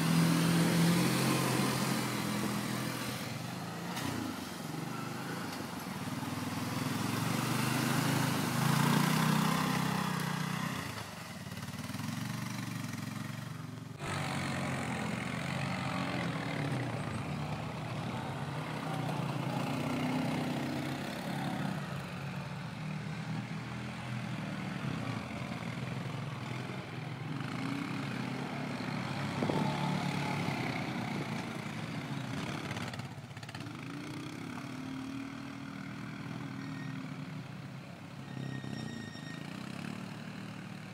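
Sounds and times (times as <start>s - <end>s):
quad bike engines revving: 0.0s - 40.9s.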